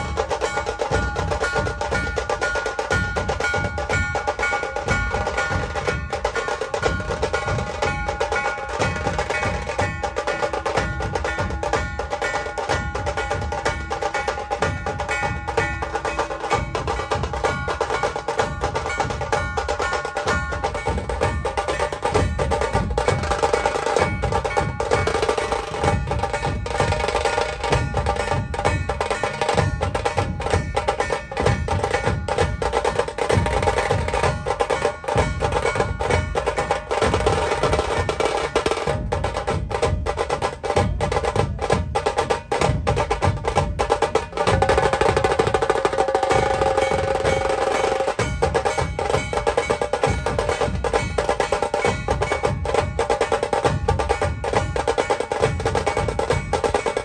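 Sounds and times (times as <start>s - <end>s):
fast dense drumming: 0.0s - 57.0s.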